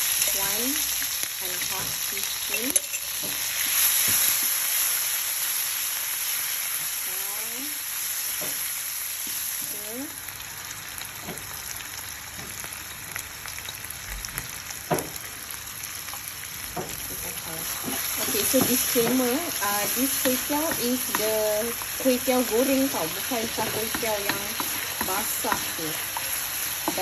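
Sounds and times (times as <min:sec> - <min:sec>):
chilli paste sizzling in hot oil: 0:00.0 - 0:27.0.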